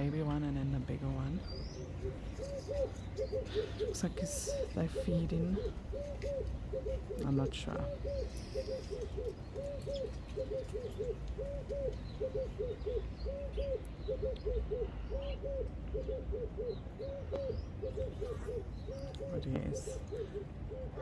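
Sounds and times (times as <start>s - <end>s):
dove cooing: 0.0s - 21.0s
faint small birds chirping: 1.1s - 21.0s.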